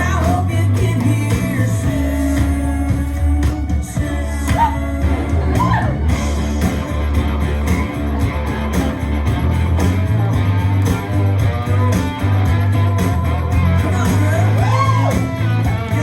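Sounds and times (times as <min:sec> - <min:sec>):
bass: 0:00.0 - 0:16.0
dance music with guitar: 0:00.0 - 0:16.0
steady drum beat: 0:00.0 - 0:16.0.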